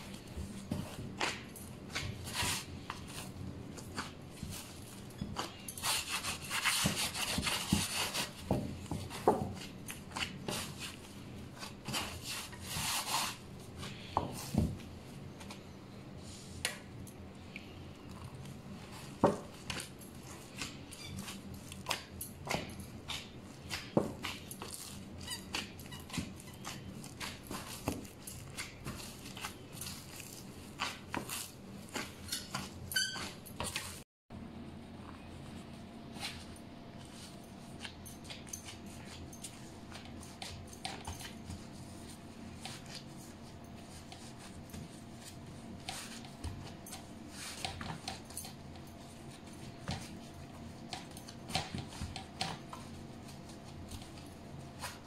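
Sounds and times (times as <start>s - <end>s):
hands kneading bread dough: 0.0s - 55.0s.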